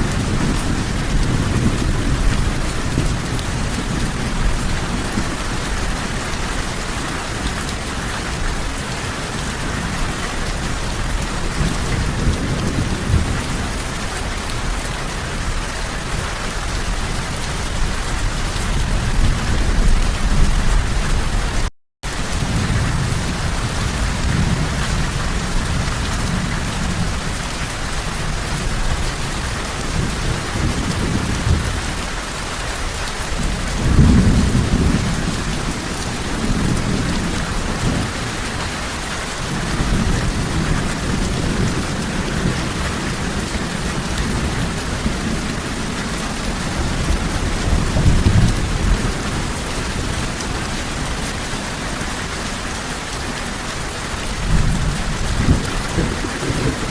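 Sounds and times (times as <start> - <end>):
rolling thunder: 0.0 - 6.7, 9.4 - 14.8, 16.8 - 32.0, 33.2 - 38.7, 39.4 - 51.9, 54.4 - 56.9
heavy rain: 0.0 - 56.9.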